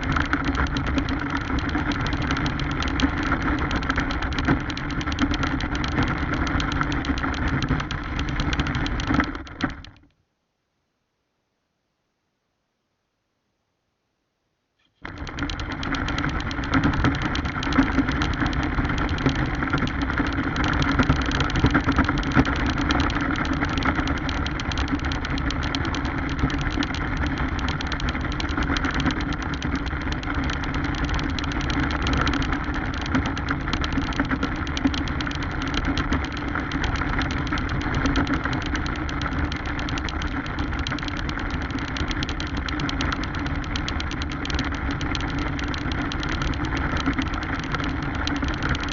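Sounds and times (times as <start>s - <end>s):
wheels rattling over ground: 0.0s - 10.0s, 15.0s - 48.9s
toy car motor hum: 0.0s - 10.1s, 15.0s - 48.9s.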